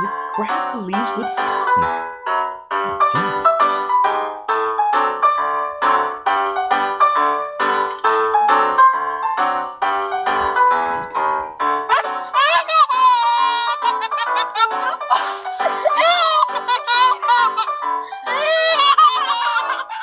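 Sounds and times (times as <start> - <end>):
piano melody: 0.0 - 20.0.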